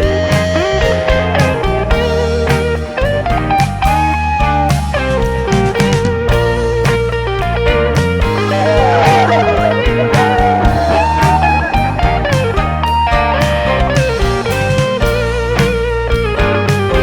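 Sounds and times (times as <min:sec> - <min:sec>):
drums and bass: 0:00.0 - 0:17.0
electric guitar bending notes: 0:00.0 - 0:17.0.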